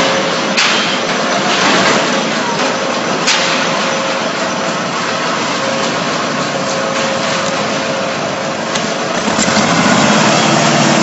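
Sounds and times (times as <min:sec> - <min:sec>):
diesel construction machinery running: 0:00.0 - 0:11.0.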